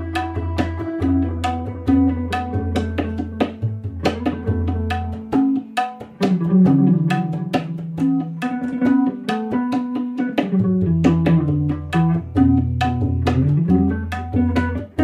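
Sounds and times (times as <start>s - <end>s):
instrumental music with beat: 0.0s - 15.0s.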